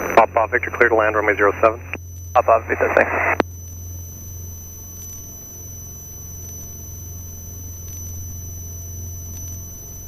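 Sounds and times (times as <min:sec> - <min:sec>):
high-pitched whine: 0:00.0 - 0:10.0
steady low hum: 0:00.0 - 0:10.0.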